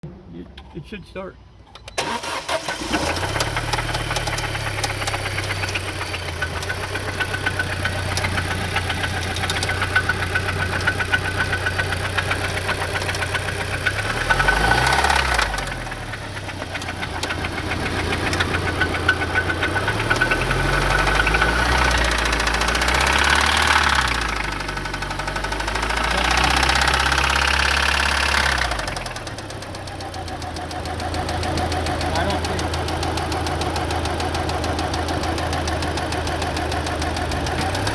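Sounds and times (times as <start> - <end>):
car engine knocking and revving: 2.8 - 37.9.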